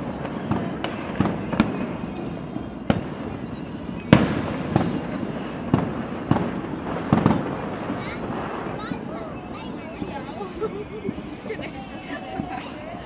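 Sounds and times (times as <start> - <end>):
firework bangs: 0.0 - 12.8
fireworks rumble and crackle: 0.0 - 13.0.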